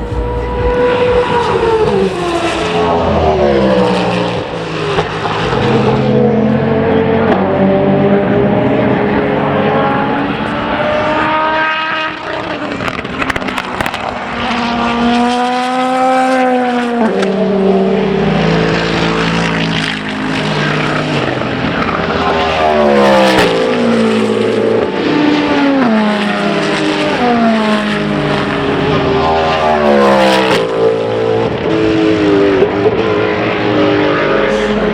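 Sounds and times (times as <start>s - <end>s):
racing car engines revving: 0.0s - 34.9s.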